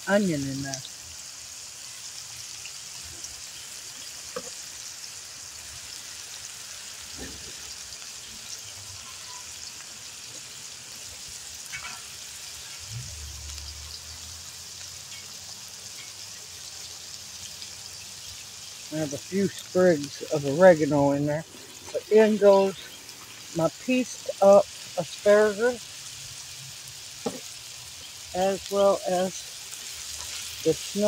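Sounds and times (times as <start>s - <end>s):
onion and garlic sizzling in wok: 0.0s - 31.0s.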